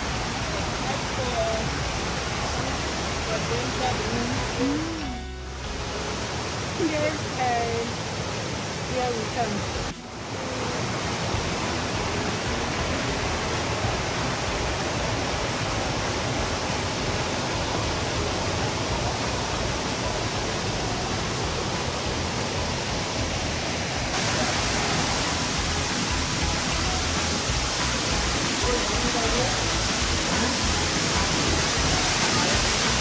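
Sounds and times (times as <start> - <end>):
stream water rushing over rocks: 0.0 - 33.0.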